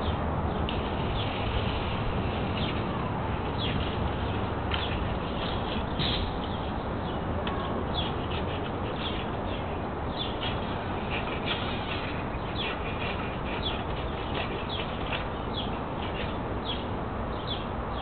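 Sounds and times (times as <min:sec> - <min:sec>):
small birds chirping: 0:00.0 - 0:18.0
steady background hiss: 0:00.0 - 0:18.0.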